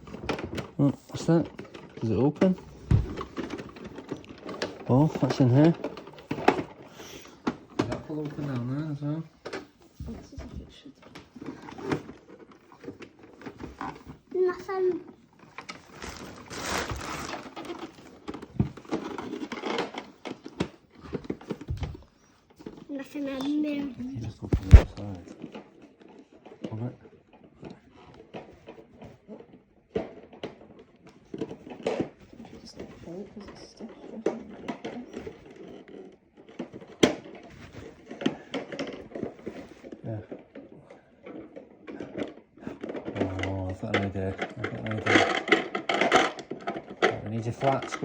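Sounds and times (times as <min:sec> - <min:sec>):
packaging rustling: 0:00.0 - 0:23.0, 0:24.4 - 0:48.0
plastic clicks and knocks: 0:00.0 - 0:23.6, 0:24.3 - 0:48.0.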